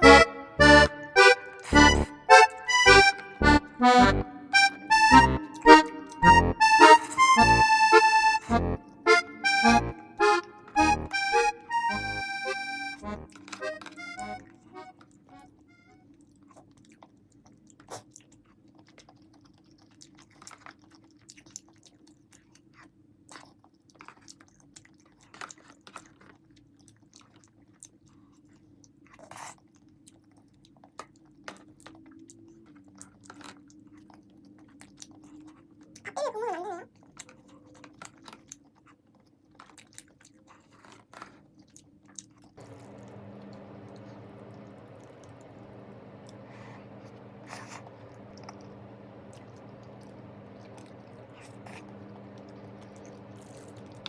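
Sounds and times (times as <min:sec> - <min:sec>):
chewing with smacks and clicks: 0:00.0 - 0:54.0.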